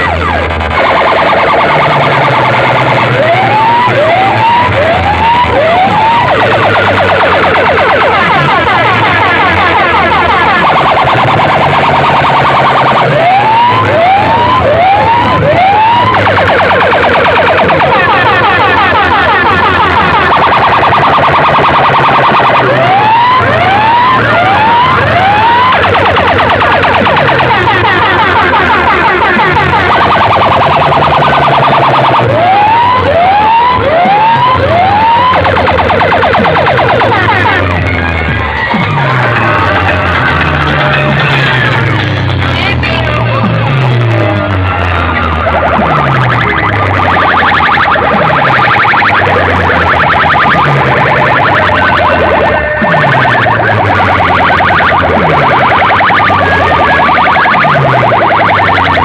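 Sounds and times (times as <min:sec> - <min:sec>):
electronic siren warbling and whooping: 0:00.0 - 0:59.0.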